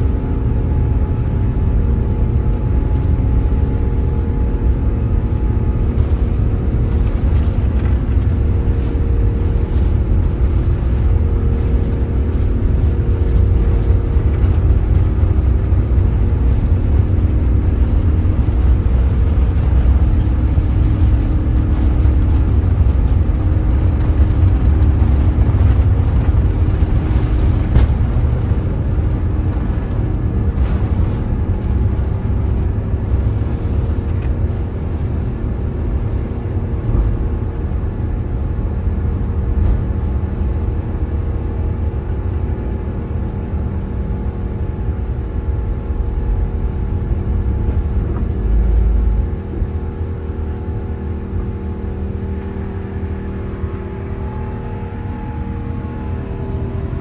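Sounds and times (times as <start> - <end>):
jet engines at takeoff power: 0.0 - 57.0.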